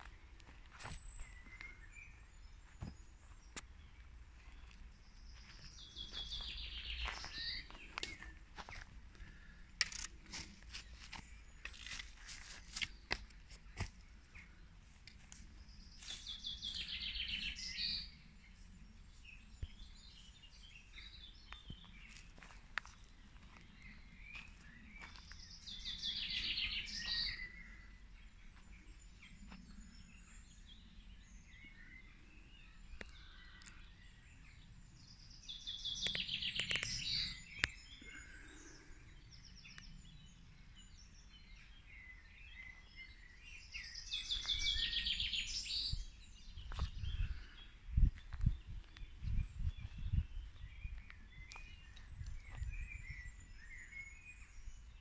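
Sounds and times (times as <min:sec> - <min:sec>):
birds calling faintly: 0:00.0 - 0:55.0
songbird singing: 0:00.0 - 0:55.0.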